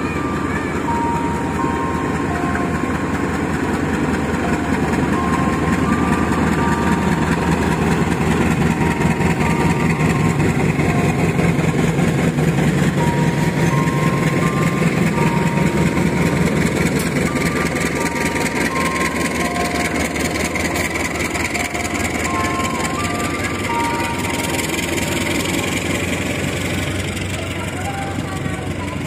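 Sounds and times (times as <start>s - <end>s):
diesel locomotive engine running: 0.0s - 29.0s
train coaches rolling on track: 0.0s - 29.0s.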